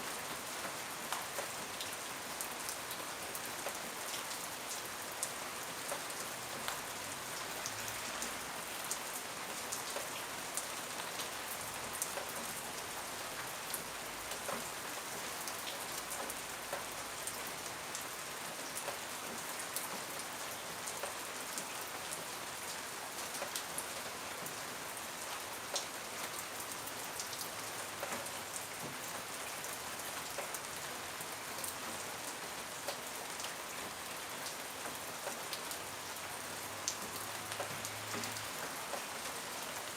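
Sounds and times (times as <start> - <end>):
steady rain hiss: 0.0 - 39.9
raindrops ticking on a surface: 0.1 - 39.9.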